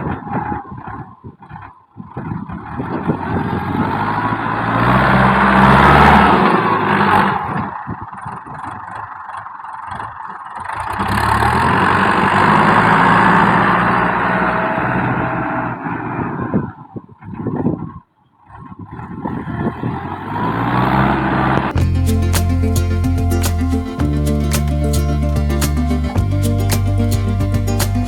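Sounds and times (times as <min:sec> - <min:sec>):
tractor diesel engine revving: 0:02.5 - 0:16.8, 0:18.9 - 0:28.0.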